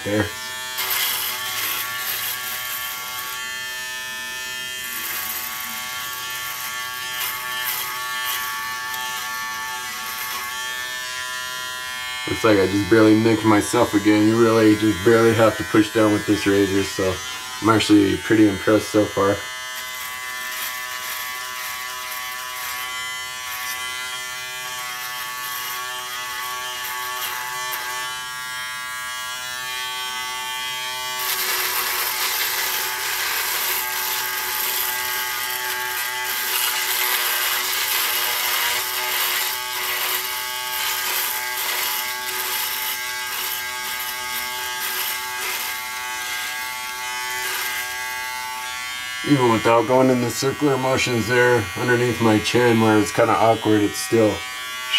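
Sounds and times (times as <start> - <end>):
electric shaver buzzing: 0.0 - 54.9.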